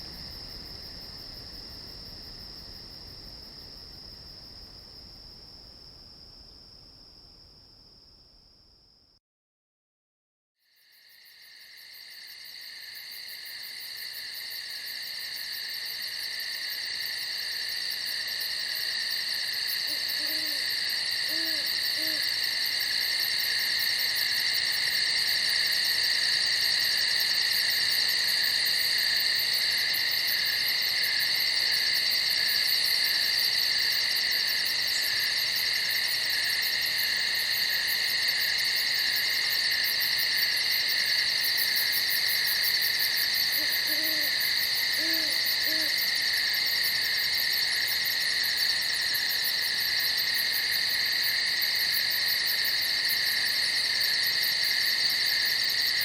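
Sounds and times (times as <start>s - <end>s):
crickets trilling: 0.0s - 7.4s, 10.8s - 56.0s.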